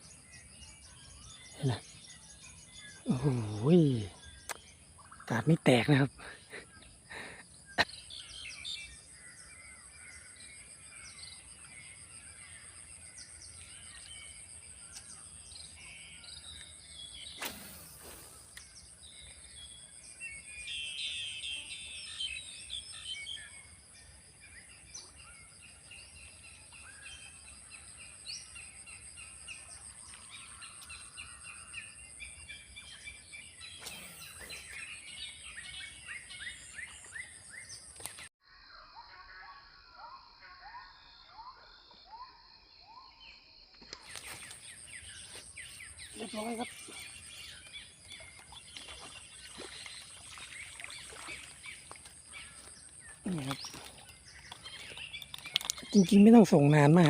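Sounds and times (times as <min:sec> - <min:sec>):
small birds chirping: 0:00.0 - 0:38.4, 0:40.7 - 0:57.0.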